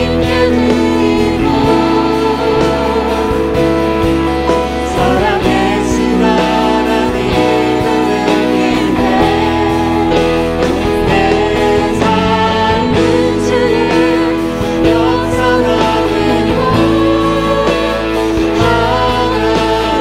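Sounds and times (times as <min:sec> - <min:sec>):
instrumental accompaniment: 0:00.0 - 0:20.0
worship song singing: 0:00.0 - 0:20.0.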